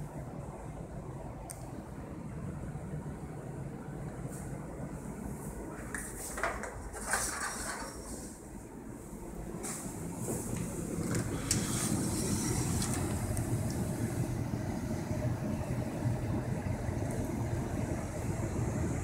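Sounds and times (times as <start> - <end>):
air handler humming: 0.0 - 19.0.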